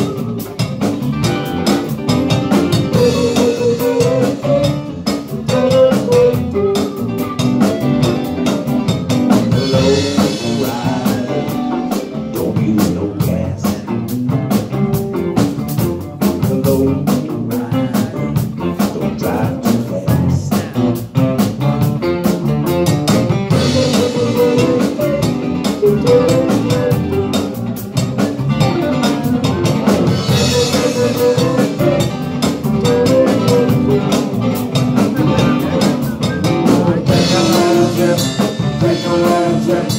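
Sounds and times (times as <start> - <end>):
acoustic and electric guitars: 0.0 - 39.9
drum kit steady beat: 0.0 - 39.9.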